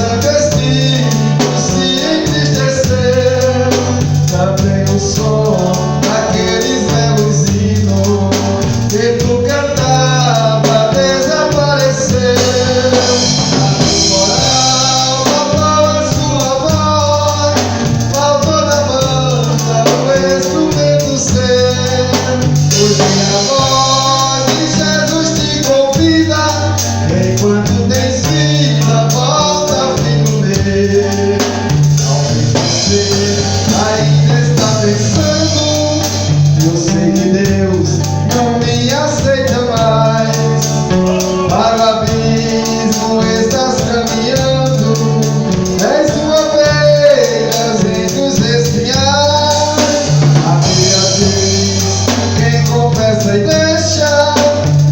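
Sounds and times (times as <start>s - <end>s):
band with drums guitar bass: 0.0s - 54.9s
vocal group singing gospel: 0.0s - 54.9s.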